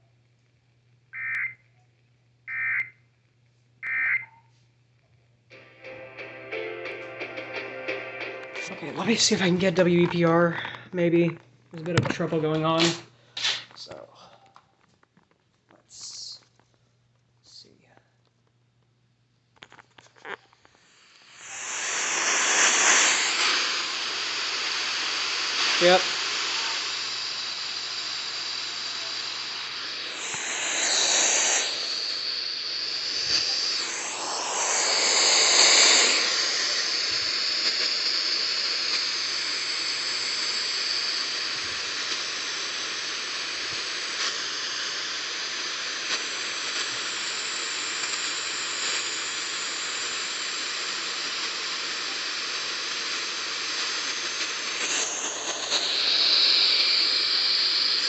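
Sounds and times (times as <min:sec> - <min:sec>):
radio static hiss: 0:01.2 - 0:01.6, 0:02.5 - 0:03.0, 0:03.8 - 0:04.3, 0:07.0 - 0:14.1, 0:15.7 - 0:16.6, 0:19.6 - 0:58.0.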